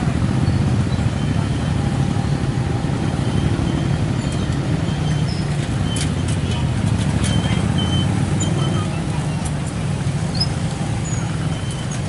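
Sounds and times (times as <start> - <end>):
road traffic engines rumbling: 0.0 - 12.0.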